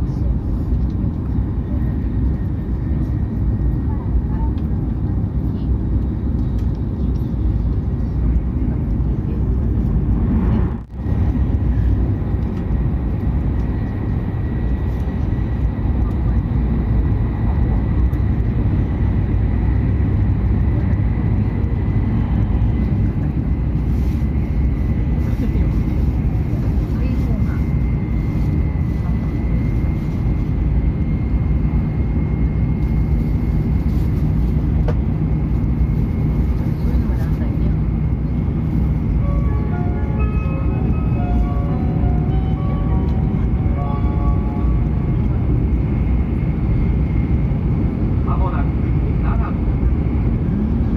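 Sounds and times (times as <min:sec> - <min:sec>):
train running rumble: 0:00.0 - 0:50.9
high steady whine: 0:09.9 - 0:50.9.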